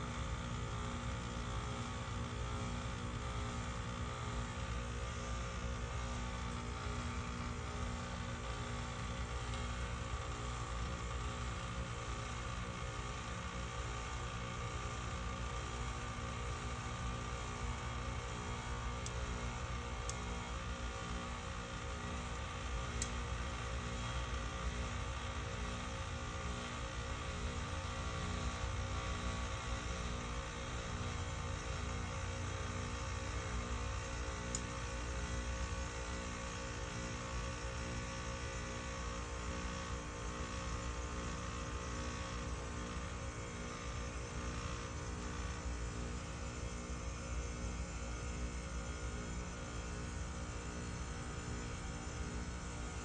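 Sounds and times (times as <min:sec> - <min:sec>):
heat pump humming: 0:00.0 - 0:53.0.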